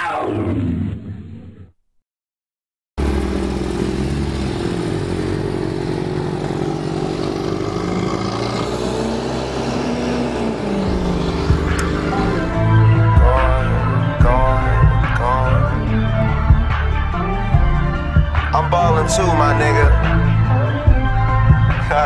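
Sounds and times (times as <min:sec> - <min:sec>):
car engine and exhaust running: 0:03.0 - 0:22.0.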